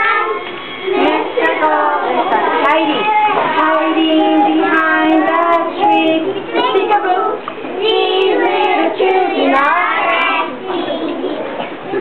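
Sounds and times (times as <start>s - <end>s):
children singing in chorus: 0.0s - 12.0s.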